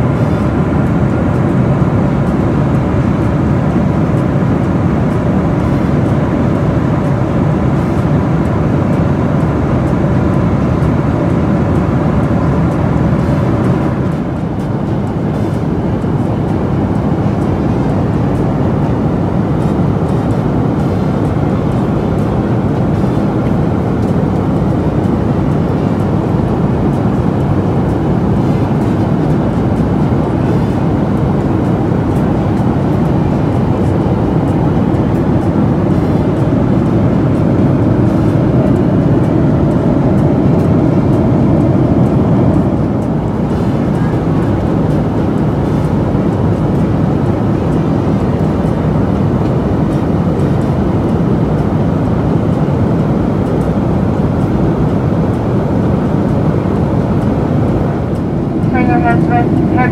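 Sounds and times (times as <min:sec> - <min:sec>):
jet airliner cabin noise: 0:00.0 - 0:59.9.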